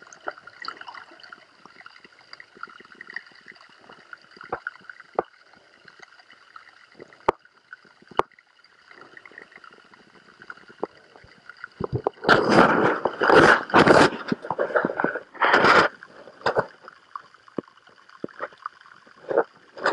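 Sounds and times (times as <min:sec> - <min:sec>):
rushing bubbling water: 0:00.0 - 0:19.9.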